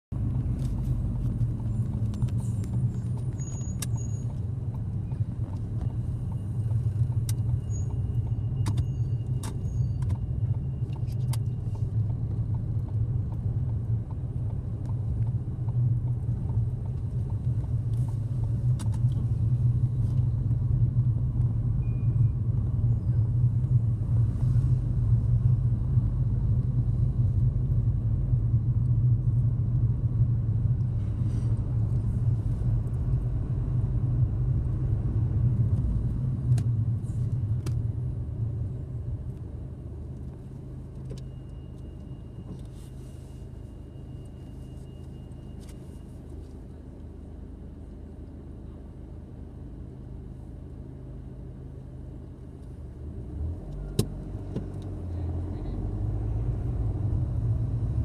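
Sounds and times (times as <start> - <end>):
engine and tyre drone: 0.1 - 46.0, 47.8 - 58.0.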